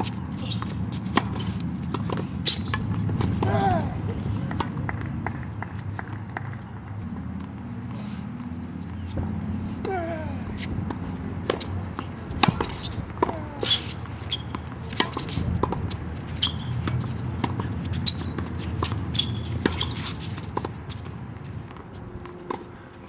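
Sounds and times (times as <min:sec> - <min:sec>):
tennis ball hits and bounces: 0:00.0 - 0:07.6, 0:08.4 - 0:23.0
shoes squeaking on court: 0:00.0 - 0:23.0.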